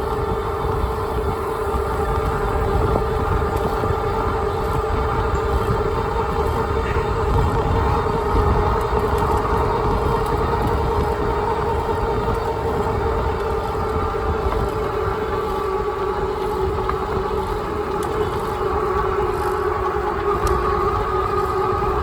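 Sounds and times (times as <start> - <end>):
electric motors whining: 0.0 - 22.0
wind rumbling on microphone: 0.0 - 22.0.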